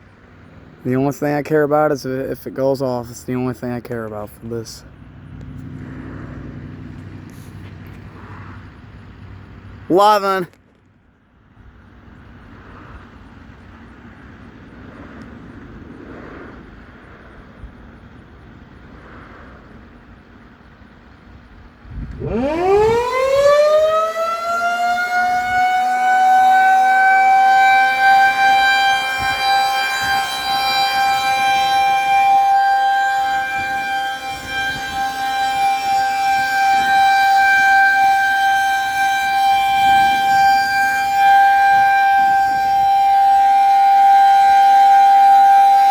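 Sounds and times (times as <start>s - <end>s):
outdoor warning siren: 0.0s - 45.9s.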